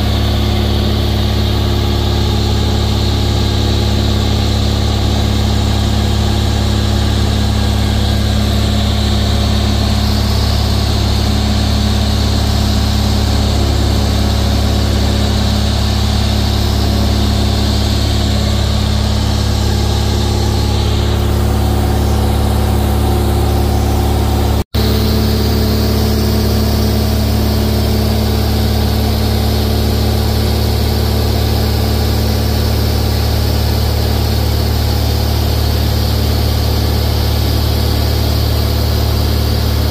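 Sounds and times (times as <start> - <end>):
cabin air noise: 0.0 - 36.2
propeller plane engine droning: 0.0 - 39.9.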